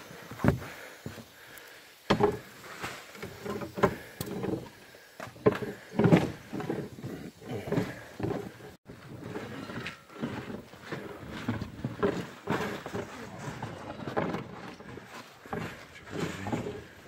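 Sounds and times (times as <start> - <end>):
footsteps on wooden roof: 0.0 - 17.0.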